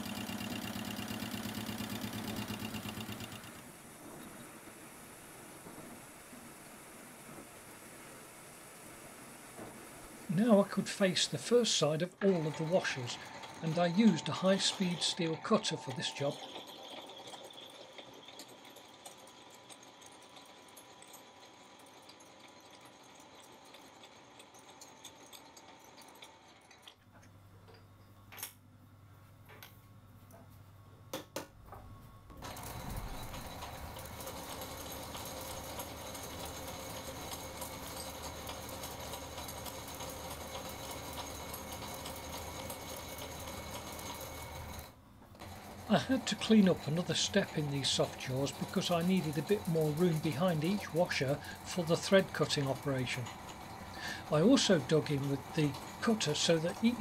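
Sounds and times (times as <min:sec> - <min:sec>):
metal lathe whirring: 0:00.0 - 0:04.4, 0:10.2 - 0:26.8, 0:32.4 - 0:57.0.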